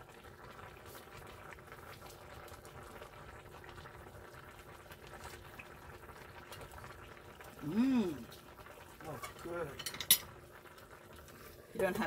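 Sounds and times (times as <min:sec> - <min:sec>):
pot simmering bubbling: 0:00.0 - 0:12.0.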